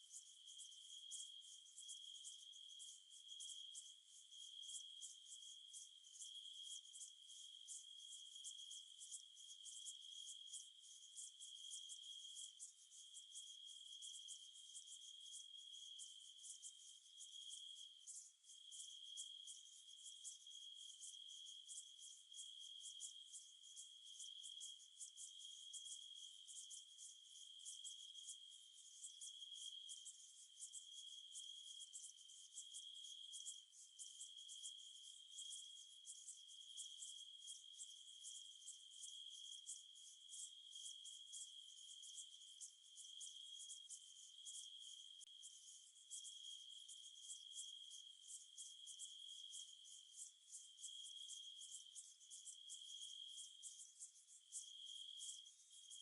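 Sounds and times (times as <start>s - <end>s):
night insects chirring: 0.1s - 56.0s.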